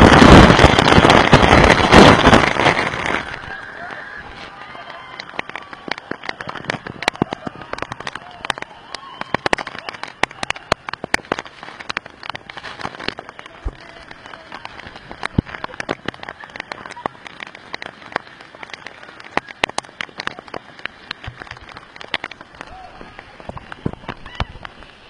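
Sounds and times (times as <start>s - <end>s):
water drops pattering: 0.0s - 25.0s.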